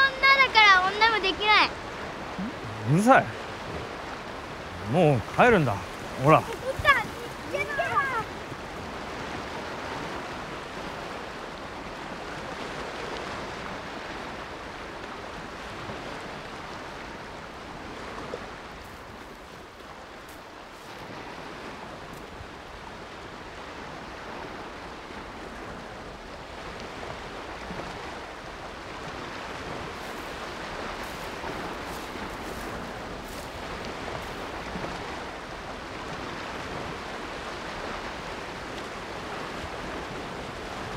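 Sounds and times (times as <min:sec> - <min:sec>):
sea surf washing on shore: 0:00.0 - 0:40.9.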